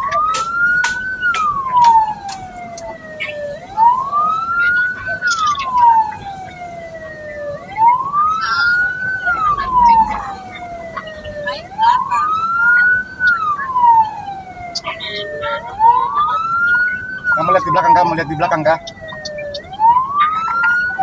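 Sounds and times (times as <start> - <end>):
ambulance siren wailing: 0.0 - 21.0.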